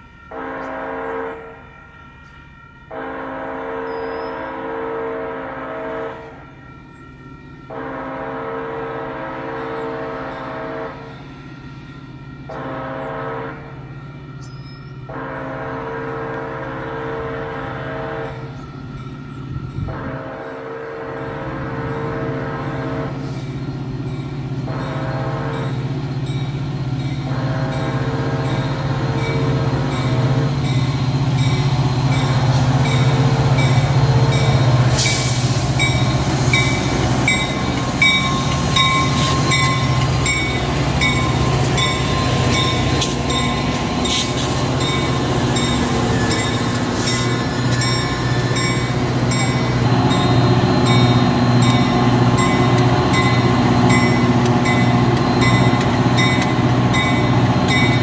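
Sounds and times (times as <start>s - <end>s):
train bell ringing: 0.0s - 4.6s, 5.5s - 8.3s, 8.9s - 58.0s
diesel train passing: 0.0s - 58.0s.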